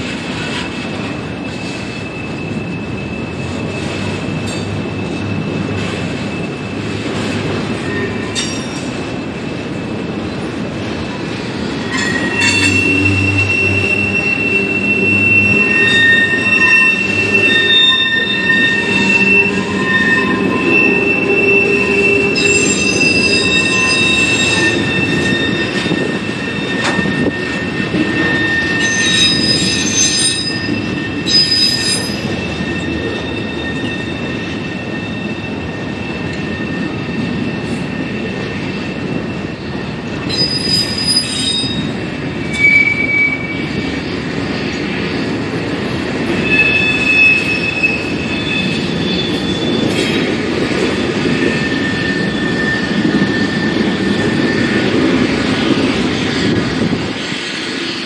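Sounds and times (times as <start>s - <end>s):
steel wheels rumbling on rail: 0.0s - 58.0s
high-pitched wheel squeals: 1.3s - 9.0s, 11.7s - 45.3s, 46.2s - 56.9s.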